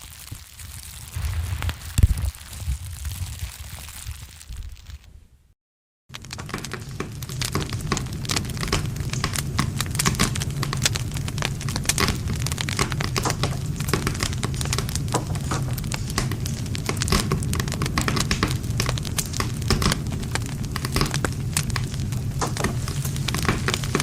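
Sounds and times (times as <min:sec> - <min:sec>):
burning wood crackling and popping: 0:00.0 - 0:05.2, 0:06.1 - 0:24.0
low rumble of flame: 0:00.1 - 0:24.0.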